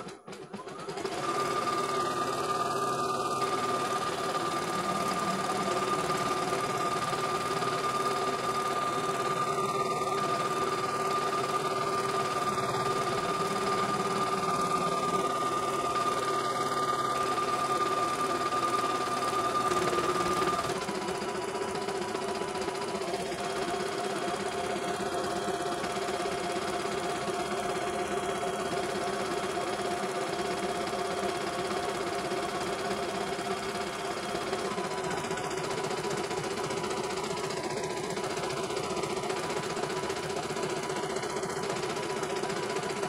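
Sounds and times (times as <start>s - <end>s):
embroidery machine stitching: 0.0s - 43.0s.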